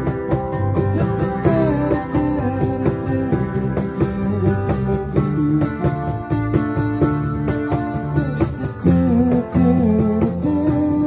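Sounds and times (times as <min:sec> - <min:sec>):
live band playing instrumental: 0:00.0 - 0:11.0.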